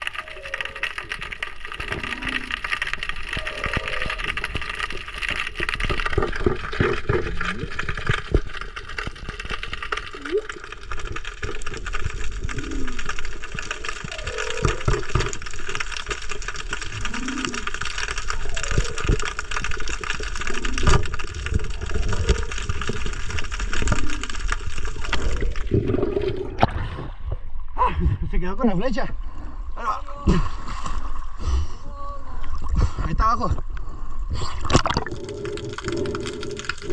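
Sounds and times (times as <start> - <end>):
underwater hiss and gurgles: 0.0 - 27.4, 30.4 - 36.9.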